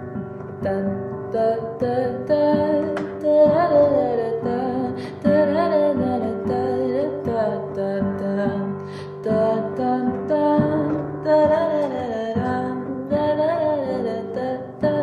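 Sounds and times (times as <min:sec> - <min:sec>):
acoustic guitar: 0:00.0 - 0:15.0
woman singing: 0:00.4 - 0:15.0.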